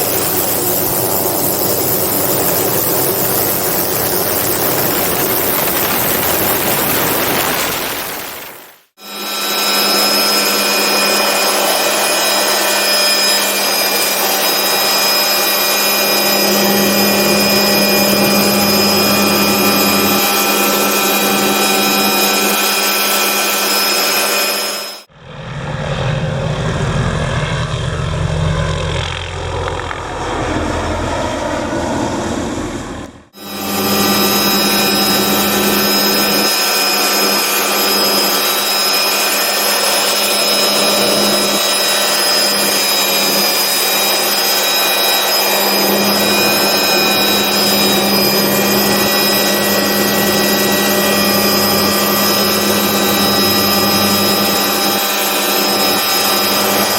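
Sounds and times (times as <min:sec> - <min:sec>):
deep low helicopter sound: 0:00.0 - 0:07.6, 0:09.0 - 0:56.9
helicopter turbine whine: 0:00.0 - 0:56.9.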